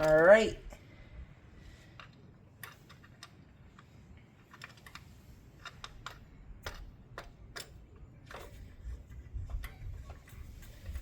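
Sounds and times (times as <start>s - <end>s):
tools clicking and knocking: 1.9s - 11.0s.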